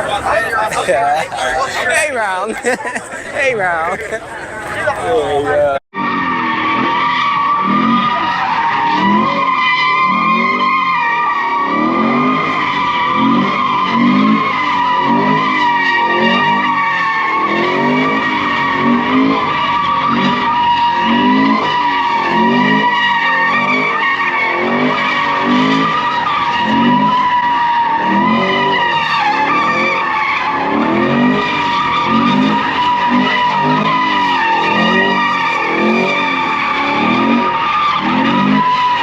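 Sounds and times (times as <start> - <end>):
car engine revving: 0.0 - 39.0
car tires squealing: 0.0 - 39.0.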